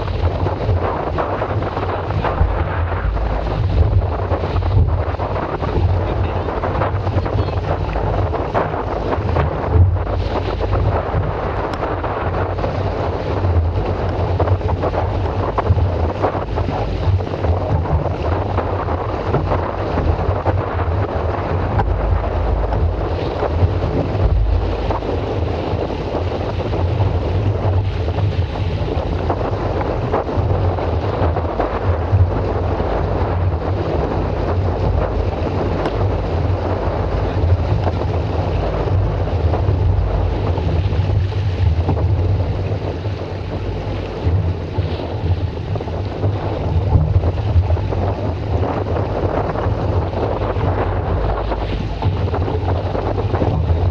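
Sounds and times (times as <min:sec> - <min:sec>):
water rushing past hull: 0:00.0 - 0:53.9
wind buffeting microphone: 0:00.0 - 0:53.9.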